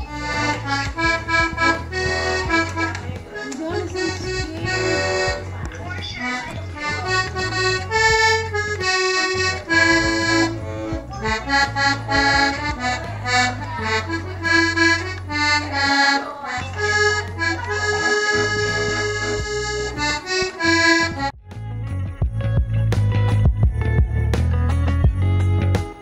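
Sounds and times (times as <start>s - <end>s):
accordion treble melody: 0.0s - 23.4s
accordion bass notes: 0.0s - 26.0s.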